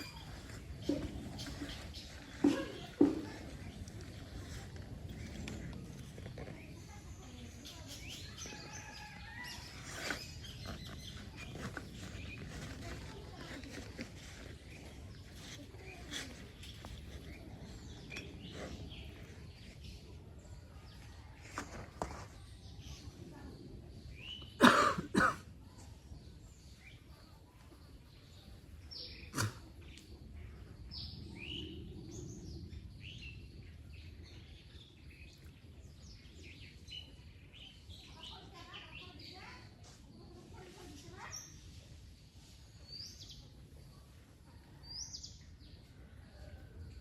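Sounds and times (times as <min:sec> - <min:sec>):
birds chirping: 0:00.0 - 0:41.7.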